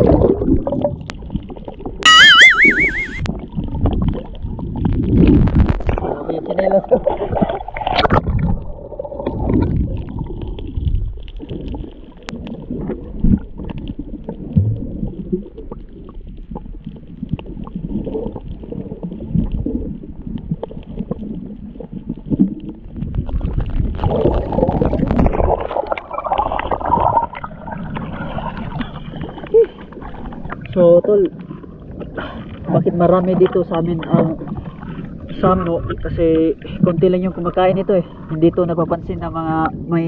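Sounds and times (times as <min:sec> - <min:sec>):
muffled water sloshing and gurgling: 0:00.0 - 0:40.0.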